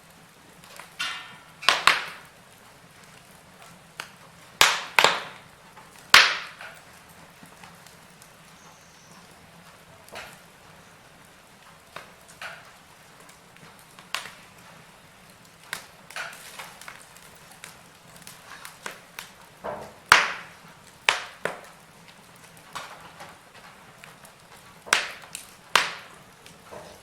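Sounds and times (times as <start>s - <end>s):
faint fire hiss: 0.0s - 27.0s
wood fire crackling and popping: 0.0s - 27.0s.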